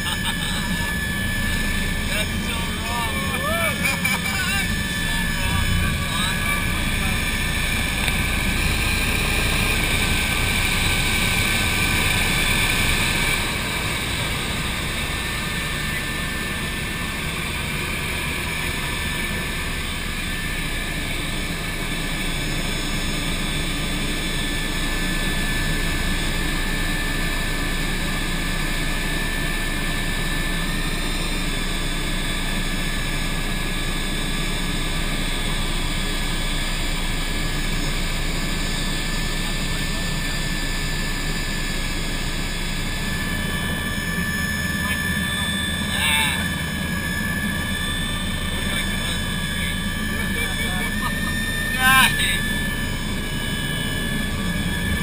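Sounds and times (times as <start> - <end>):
helicopter rotor and engine drone: 0.0 - 55.0
high turbine whine: 0.0 - 55.0.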